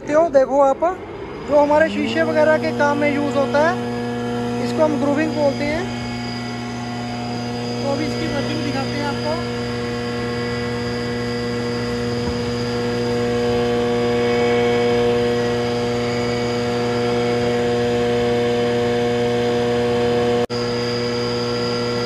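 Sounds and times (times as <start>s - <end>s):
planer motor humming and whining: 0.0s - 22.0s.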